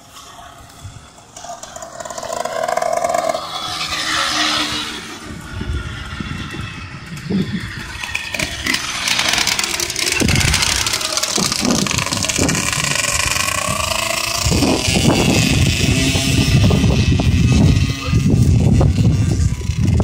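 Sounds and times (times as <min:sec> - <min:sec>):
pocket bike passing with whine: 0:00.0 - 0:20.0
small engines buzzing at high revs: 0:00.0 - 0:20.0.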